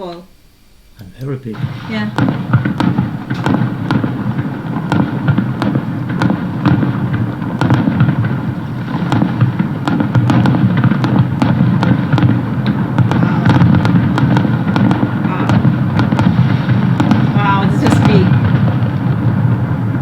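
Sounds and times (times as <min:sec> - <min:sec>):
fireworks bursting and crackling: 0:00.3 - 0:20.0
low rumble: 0:01.4 - 0:20.0.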